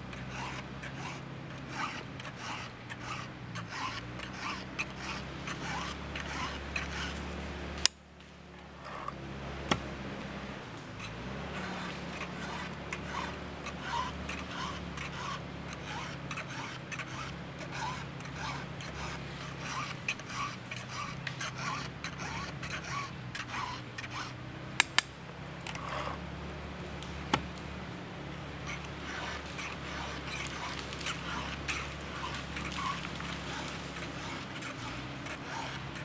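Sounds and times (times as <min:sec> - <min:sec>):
file rasping on chainsaw chain: 0:00.0 - 0:07.4, 0:08.8 - 0:09.2, 0:11.0 - 0:25.1, 0:25.7 - 0:26.2, 0:28.2 - 0:36.0
steady low hum: 0:00.0 - 0:36.0.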